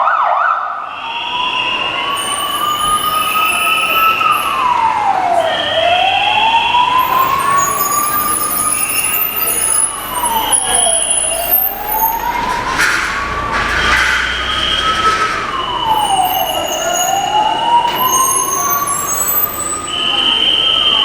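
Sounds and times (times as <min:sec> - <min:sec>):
emergency siren wailing: 0:00.0 - 0:21.0
higher steady siren tones: 0:00.0 - 0:21.0.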